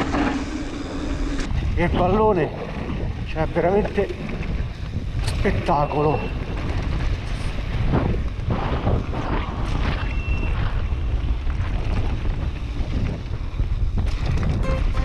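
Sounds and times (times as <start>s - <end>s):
mountain bike rumbling and rattling: 0.0s - 15.0s
wind buffeting microphone: 0.0s - 15.0s.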